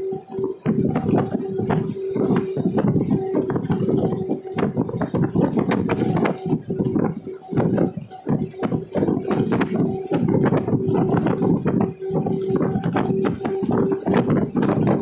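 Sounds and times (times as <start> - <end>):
vehicle whine on the road: 0.0 - 15.0
vehicle body rattling: 0.5 - 15.0.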